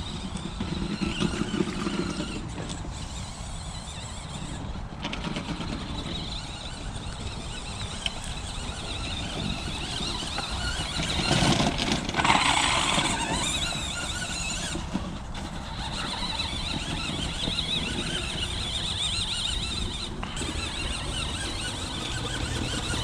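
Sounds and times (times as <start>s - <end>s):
ground and tyre rumble: 0.0s - 23.0s
toy truck motor whining: 0.0s - 23.0s.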